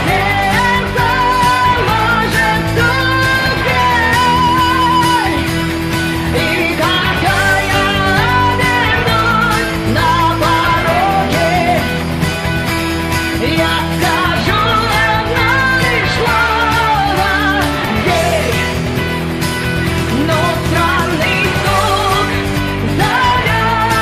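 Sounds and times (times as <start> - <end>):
person singing: 0.0 - 19.1, 19.9 - 24.0
bass line: 0.0 - 24.0
guitar: 0.0 - 24.0.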